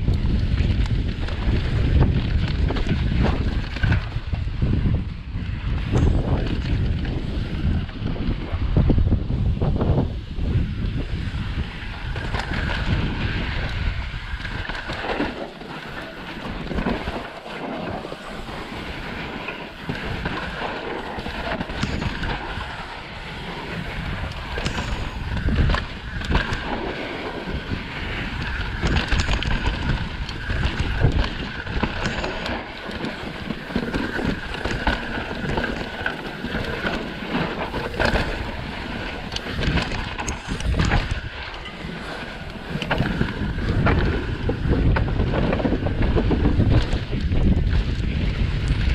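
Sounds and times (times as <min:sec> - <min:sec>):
bike knocking and rattling: 0:00.0 - 0:48.9
tyres rushing on dirt: 0:00.0 - 0:48.9
wind buffeting microphone: 0:00.0 - 0:48.9.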